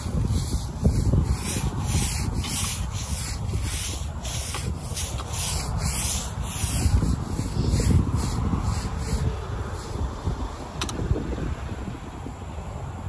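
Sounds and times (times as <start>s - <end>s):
brush scrubbing a surface: 0.0s - 10.6s.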